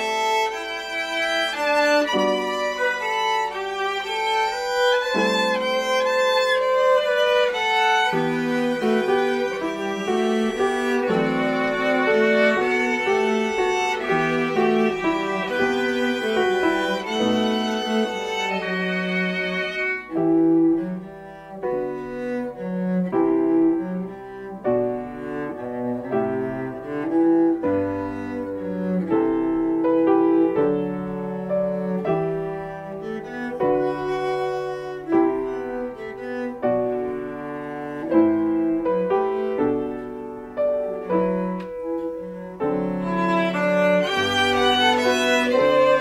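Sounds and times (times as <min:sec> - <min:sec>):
violins bowing: 0:00.0 - 0:40.2, 0:41.0 - 0:46.0
piano chords: 0:00.0 - 0:46.0.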